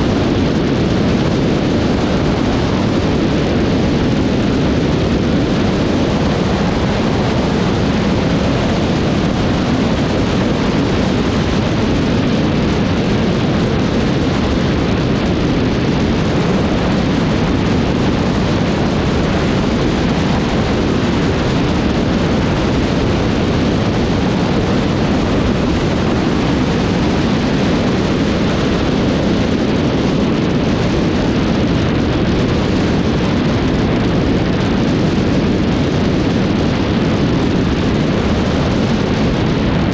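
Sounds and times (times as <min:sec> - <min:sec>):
small plane engine running: 0:00.0 - 0:39.9
wind rushing on camera: 0:00.0 - 0:39.9.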